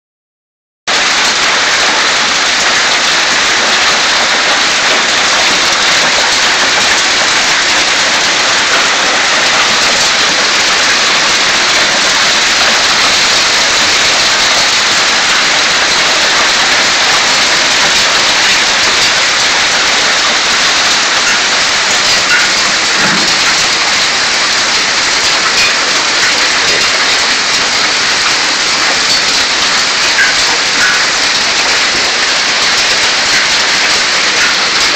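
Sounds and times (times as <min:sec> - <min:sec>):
heavy rain and hail: 0:00.9 - 0:34.9.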